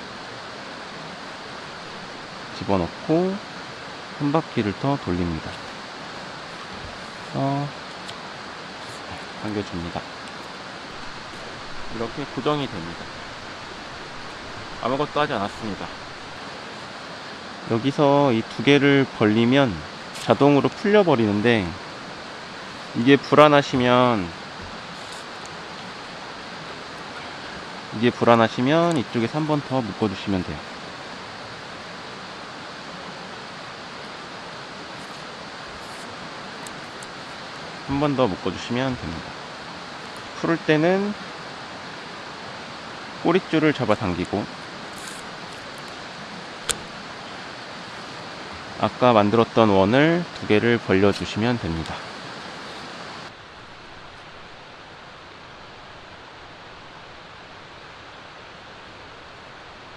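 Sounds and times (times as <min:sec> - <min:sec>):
outdoor background noise: 0:00.0 - 0:59.9
stream rushing over rocks: 0:00.0 - 0:59.9.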